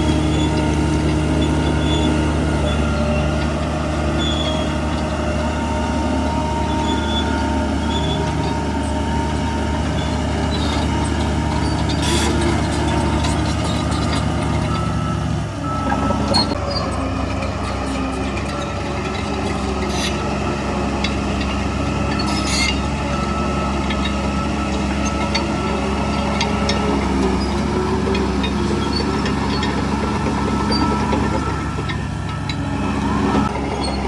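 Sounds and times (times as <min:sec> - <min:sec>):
diesel earthmoving machinery running: 0:00.0 - 0:34.0.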